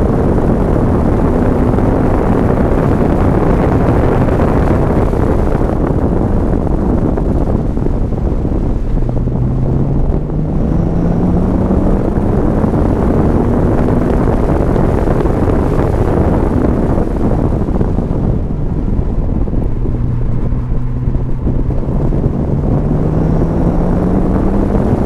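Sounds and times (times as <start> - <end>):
car engine revving: 0.0 - 25.0
road and tyre noise: 0.0 - 25.0.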